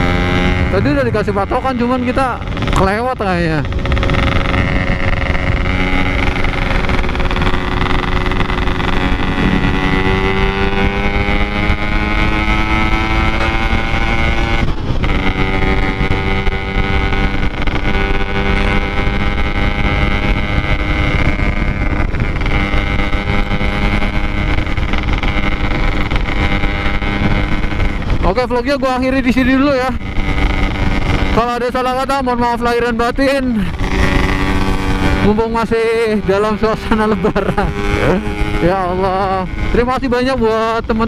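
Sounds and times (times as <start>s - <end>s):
two-stroke motorcycle engine: 0.0s - 41.0s
wind on microphone: 0.0s - 41.0s.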